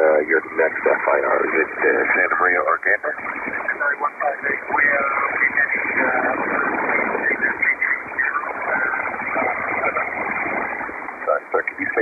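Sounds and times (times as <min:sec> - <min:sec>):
garbled pilot voice over radio: 0:00.0 - 0:10.6, 0:11.2 - 0:12.0
radio static: 0:00.0 - 0:12.0.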